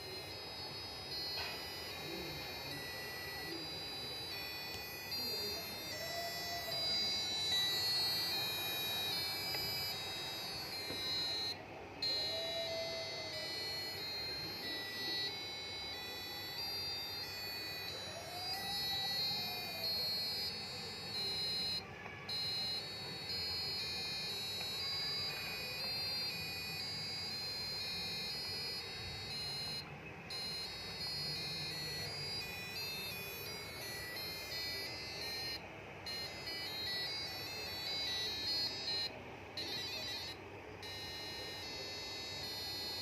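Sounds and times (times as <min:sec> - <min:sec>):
electronic buzzer beeping tune: 0:00.0 - 0:43.0.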